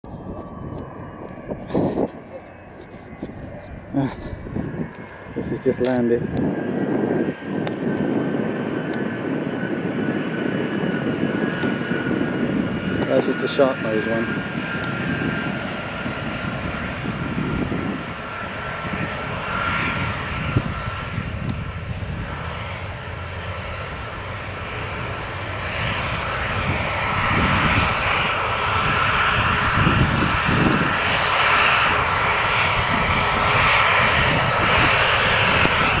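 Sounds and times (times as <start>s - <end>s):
jet engines roaring with whine: 0.0s - 36.0s.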